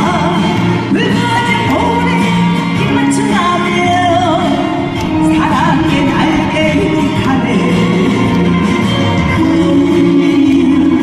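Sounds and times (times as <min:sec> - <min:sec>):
band backing with bass: 0:00.0 - 0:11.0
woman singing with vibrato: 0:00.0 - 0:11.0.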